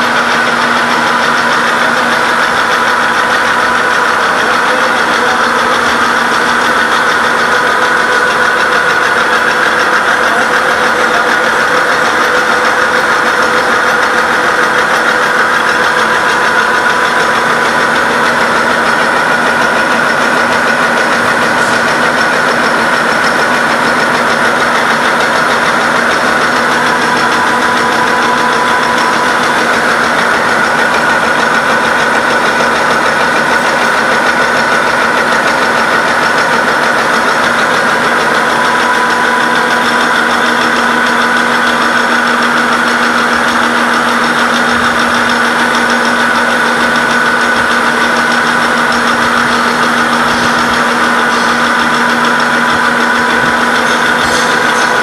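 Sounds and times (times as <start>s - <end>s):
high whining tones: 0.0s - 55.0s
milling machine cutting steel: 0.0s - 55.0s.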